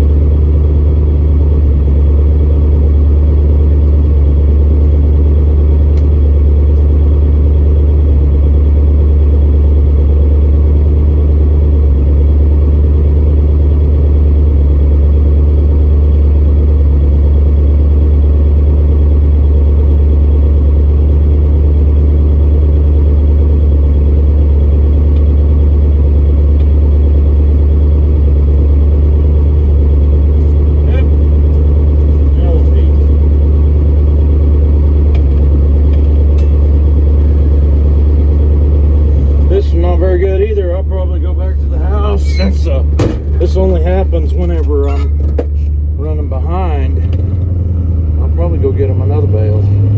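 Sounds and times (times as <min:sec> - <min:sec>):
pickup truck engine idling: 0:00.0 - 0:49.9.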